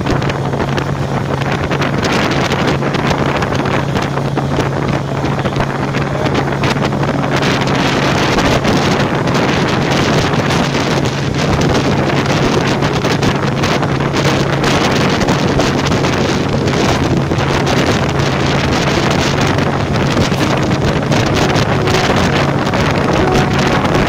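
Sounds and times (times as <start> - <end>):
two-stroke outboard motor running: 0.0 - 22.1
wind buffeting microphone: 0.0 - 24.0.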